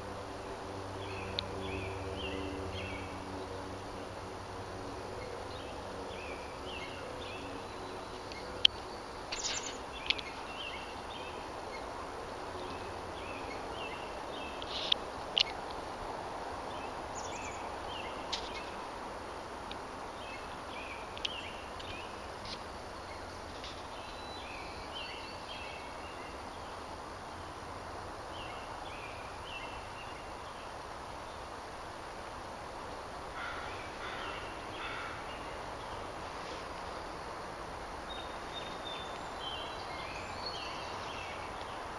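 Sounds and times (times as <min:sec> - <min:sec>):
small birds chirping: 0:00.0 - 0:31.7, 0:33.3 - 0:41.9
steady outdoor hiss: 0:00.0 - 0:41.9.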